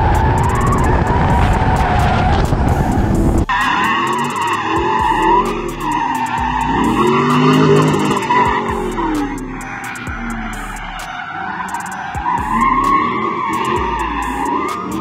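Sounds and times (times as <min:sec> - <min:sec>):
background music with beat: 0:00.0 - 0:15.0
car engine revving: 0:00.0 - 0:15.0
tyres squealing: 0:00.0 - 0:15.0.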